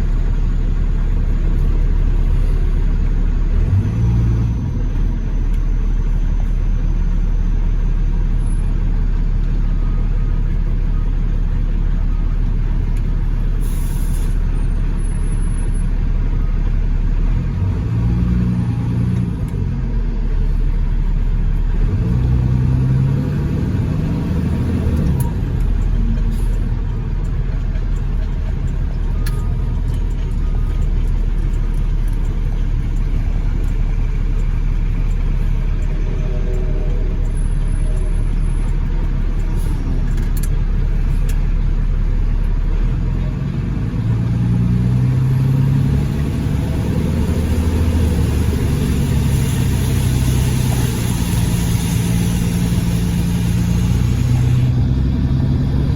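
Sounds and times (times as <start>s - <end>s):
vehicle engine rumbling: 0.0s - 55.9s.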